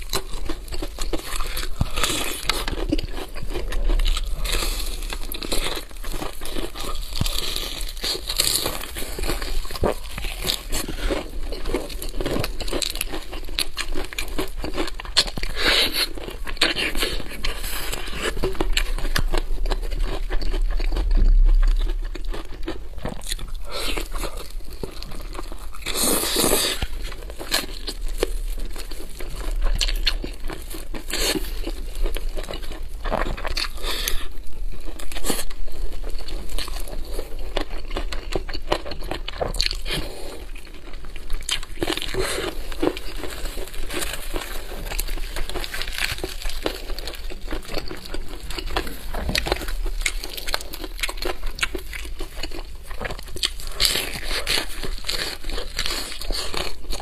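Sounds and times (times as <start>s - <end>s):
crunching and chewing fried chicken: 0.0s - 57.0s.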